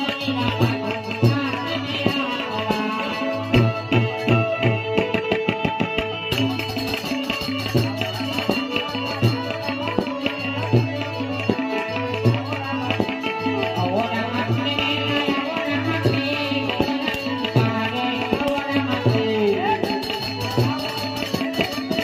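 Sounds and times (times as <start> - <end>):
hand drum rhythm: 0.0 - 22.0.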